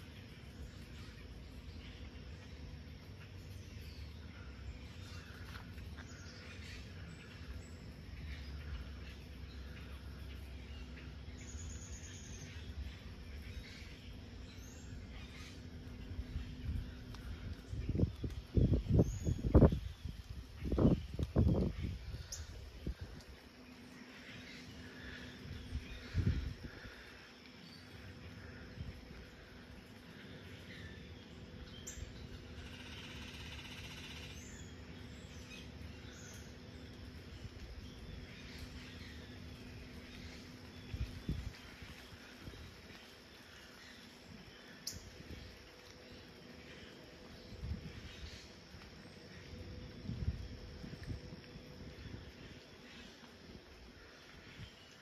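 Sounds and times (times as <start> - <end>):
faint steady hum: 0.0 - 55.0
light drizzle on leafy trees: 0.0 - 55.0.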